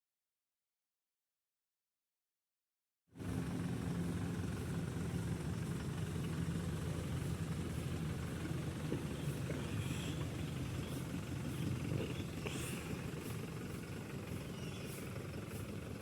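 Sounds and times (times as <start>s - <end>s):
engine running steadily: 3.1s - 16.0s.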